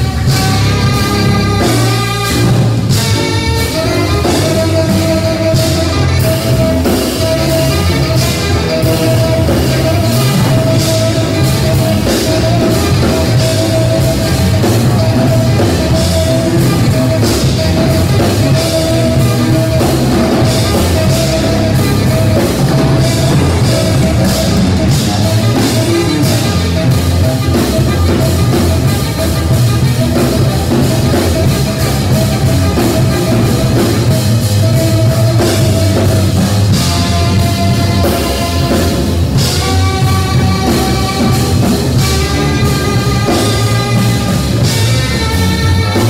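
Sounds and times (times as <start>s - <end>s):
drum kit: 0.0s - 46.0s
electric guitar: 0.0s - 46.0s
mid-pitched held note: 0.0s - 46.0s.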